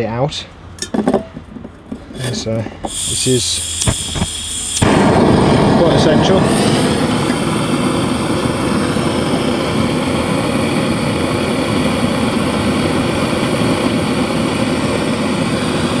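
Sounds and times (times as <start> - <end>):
blowtorch flame rushing: 2.9 - 16.0.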